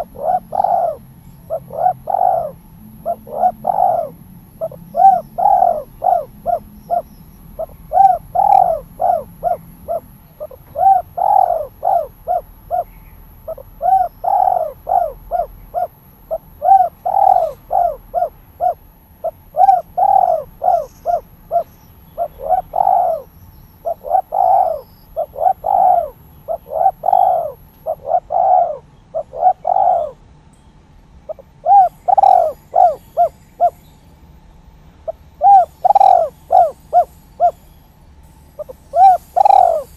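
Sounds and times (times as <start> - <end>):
dove cooing: 0.0 - 30.2, 31.3 - 33.8, 35.0 - 37.7, 38.6 - 39.9.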